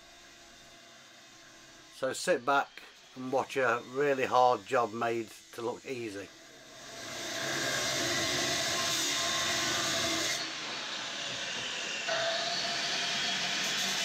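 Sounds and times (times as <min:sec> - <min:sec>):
angle grinder grinding steel: 0:00.1 - 0:14.0.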